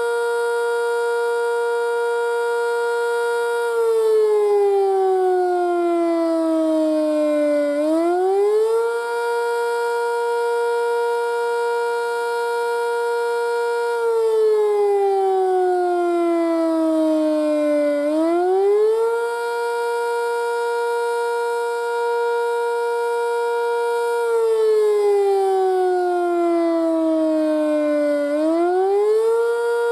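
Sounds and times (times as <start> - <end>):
outdoor warning siren wailing: 0.0 - 29.9.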